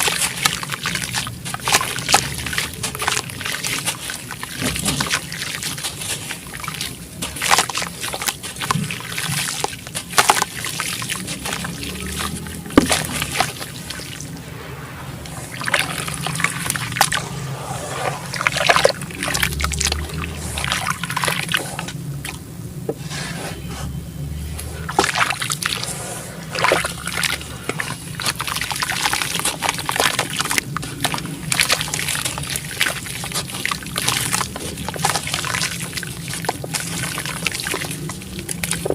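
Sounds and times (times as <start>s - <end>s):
chunks crumbling in water: 0.0s - 14.4s, 15.3s - 22.5s, 24.8s - 38.9s.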